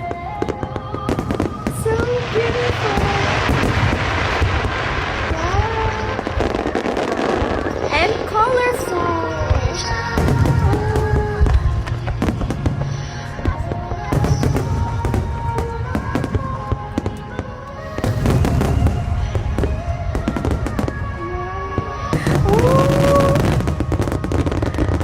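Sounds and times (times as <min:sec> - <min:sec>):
deep booms of fireworks: 0:00.0 - 0:25.0
fireworks bursting and crackling: 0:00.0 - 0:25.0
slow song with vocals: 0:00.0 - 0:25.0.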